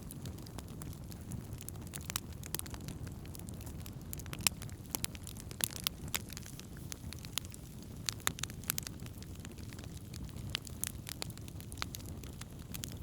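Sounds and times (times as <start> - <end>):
burning wood crackling and popping: 0.0 - 13.0
campfire flames burning: 0.0 - 13.0.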